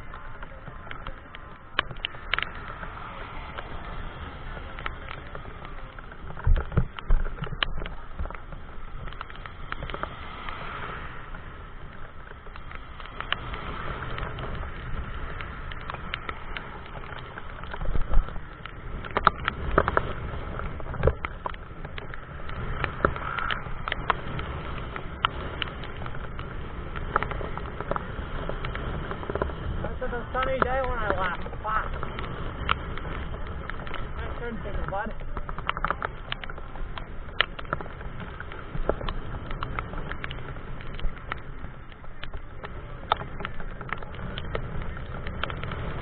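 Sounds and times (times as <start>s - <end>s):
wet road noise: 0.0s - 46.0s
wind: 0.0s - 46.0s.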